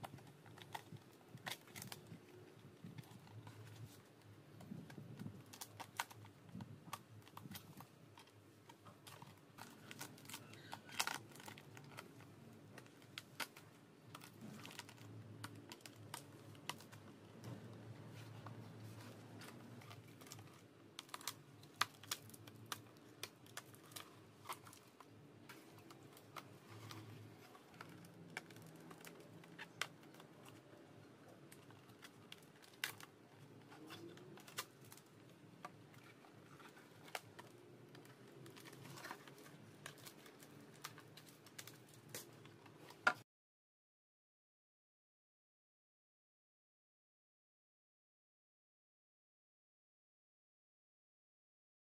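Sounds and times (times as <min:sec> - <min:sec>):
film rustling: 0:00.0 - 0:43.2.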